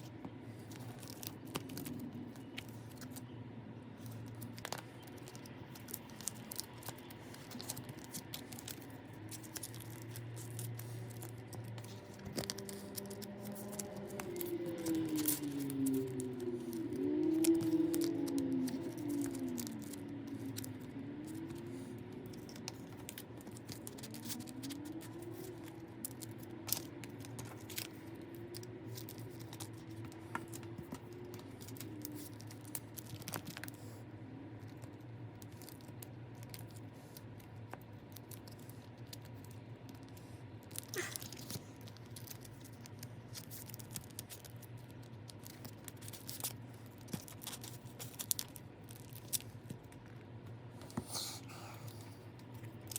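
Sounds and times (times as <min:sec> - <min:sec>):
low room hum: 0:00.0 - 0:52.9.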